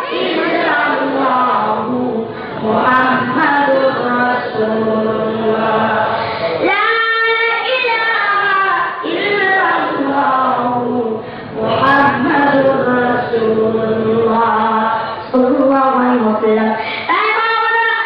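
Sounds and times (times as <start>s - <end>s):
child singing melodic chant: 0.0s - 18.0s.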